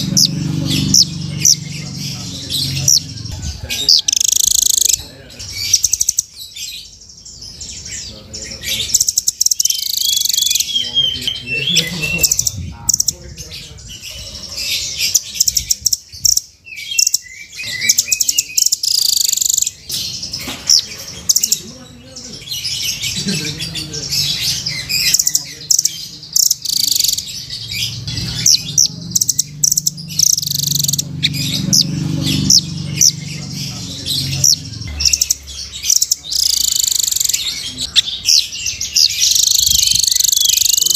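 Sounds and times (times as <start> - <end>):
bird chirping trills: 0.0 - 40.9.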